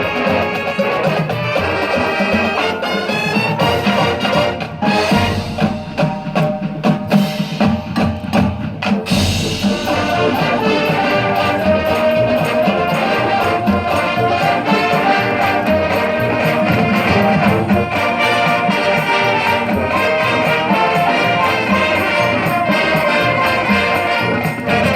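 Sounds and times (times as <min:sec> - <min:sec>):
sustained brass chords: 0:00.0 - 0:07.5, 0:09.1 - 0:24.9
brass band ensemble hits: 0:00.0 - 0:24.9.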